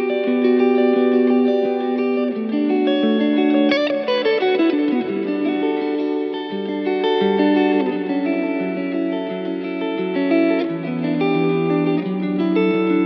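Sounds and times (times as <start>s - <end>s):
electric guitar through effects: 0.0s - 13.0s
guitar pitch slide: 0.0s - 13.0s.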